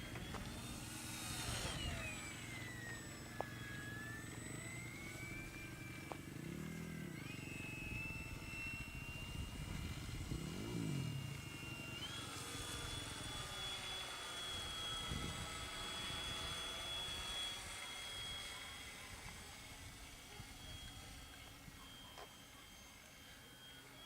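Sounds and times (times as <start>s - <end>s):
light aircraft engine and propeller: 0.0s - 24.0s.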